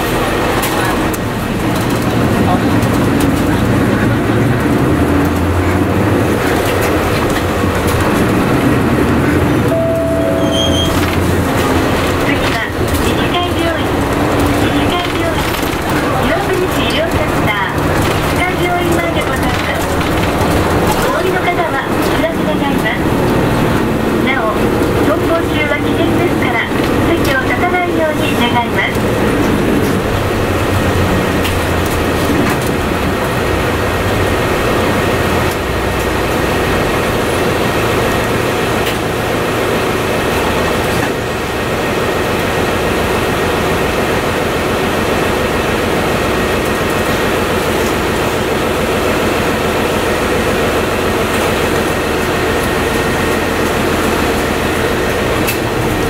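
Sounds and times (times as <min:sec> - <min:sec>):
bus diesel engine: 0:00.0 - 0:56.0
road rumble: 0:00.0 - 0:56.0.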